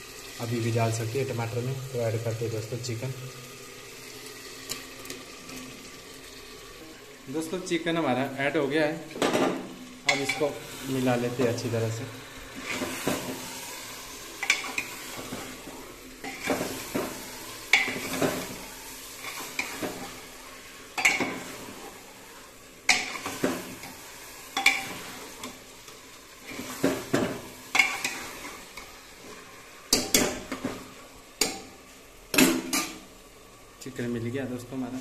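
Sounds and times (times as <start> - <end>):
frying sizzle: 0.0 - 35.0.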